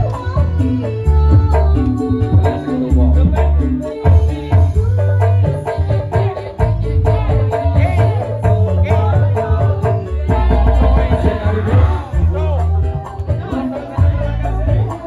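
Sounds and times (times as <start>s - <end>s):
hand drum beat: 0.0s - 15.0s
heavy bass: 0.0s - 15.0s
person singing: 0.0s - 15.0s.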